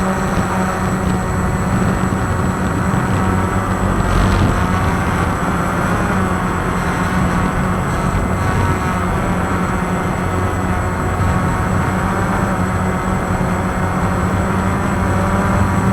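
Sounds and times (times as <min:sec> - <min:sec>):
quadcopter propellers humming: 0:00.0 - 0:15.9.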